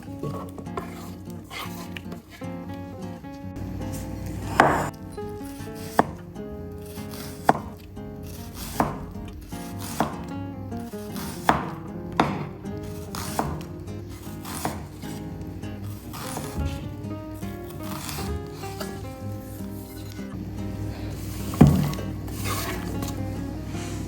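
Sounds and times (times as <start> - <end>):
knife chopping on cutting board: 0.0 - 2.3, 3.9 - 20.2, 21.2 - 23.2
background music: 0.0 - 24.0.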